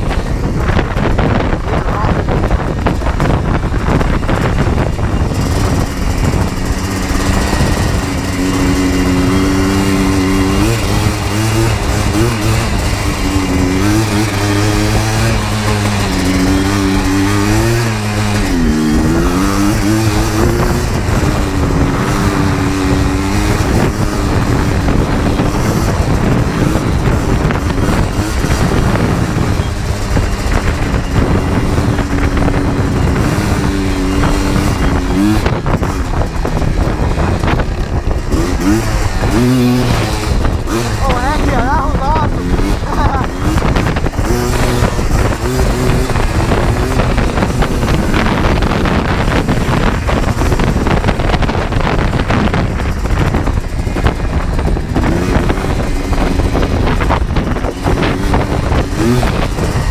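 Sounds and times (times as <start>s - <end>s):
two-stroke atv engine revving: 0.0s - 59.9s.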